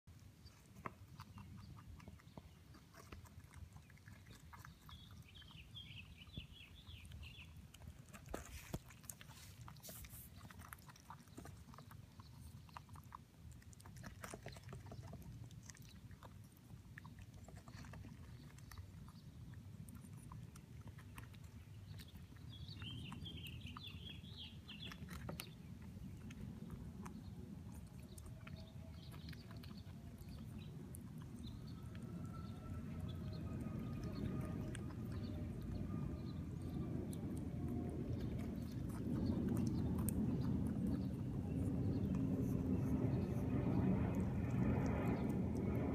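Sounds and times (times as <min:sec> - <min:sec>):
low steady rumble: 0:00.1 - 0:45.9
rabbit chewing: 0:00.1 - 0:45.9.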